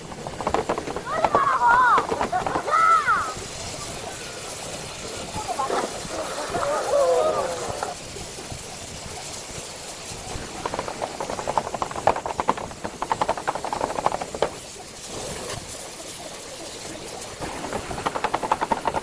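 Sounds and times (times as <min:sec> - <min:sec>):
rapid tapping or rattling: 0:00.0 - 0:16.2, 0:16.9 - 0:19.0
steady hiss: 0:00.0 - 0:19.0.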